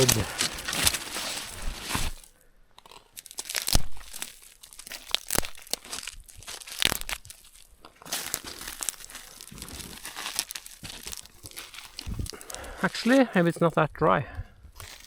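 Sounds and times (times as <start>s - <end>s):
firewood cracking and crunching: 0.0s - 13.8s, 14.6s - 15.0s.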